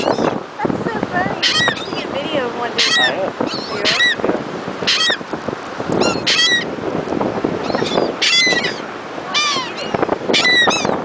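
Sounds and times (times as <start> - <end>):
seagulls squawking: 0.0 - 0.4, 1.2 - 6.8, 7.6 - 11.0.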